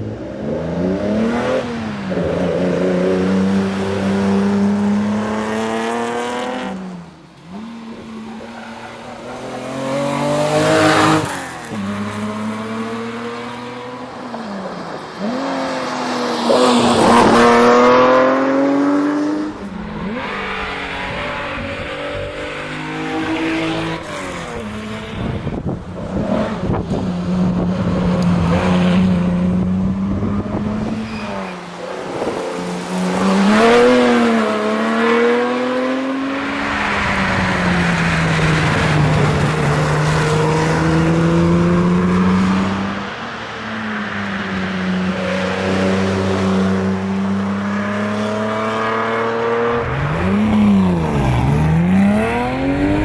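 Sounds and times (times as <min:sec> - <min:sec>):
car engine revving: 0:00.0 - 0:14.2, 0:15.1 - 0:53.0.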